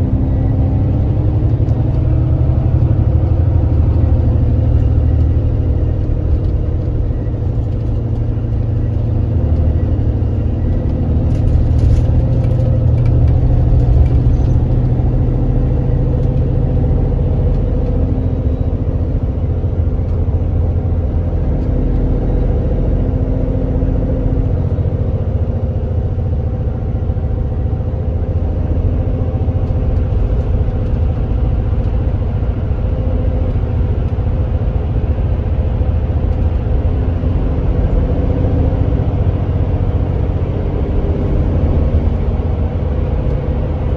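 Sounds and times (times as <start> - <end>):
coach diesel engine droning: 0.0 - 43.9.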